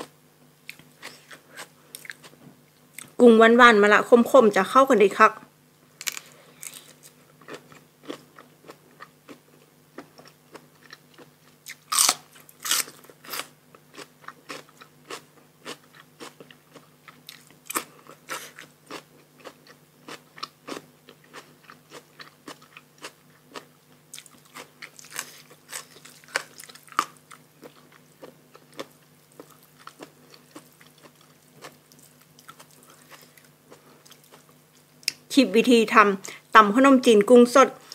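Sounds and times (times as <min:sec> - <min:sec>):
crisp crunchy chewing: 0:00.0 - 0:03.1, 0:06.0 - 0:35.2.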